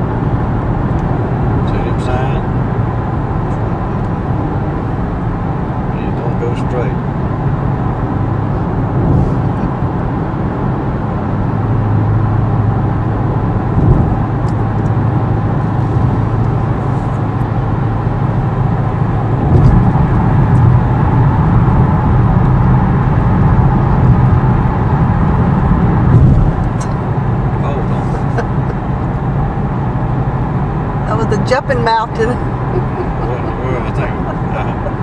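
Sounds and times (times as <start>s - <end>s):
car engine and tyre drone: 0.0s - 35.0s.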